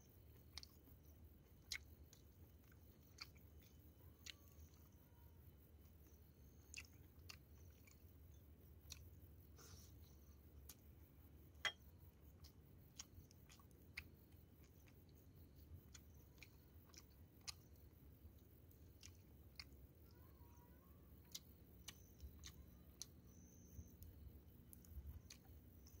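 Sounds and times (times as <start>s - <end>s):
person chewing with crunches: 0.0s - 5.2s, 5.8s - 11.0s, 12.1s - 26.0s.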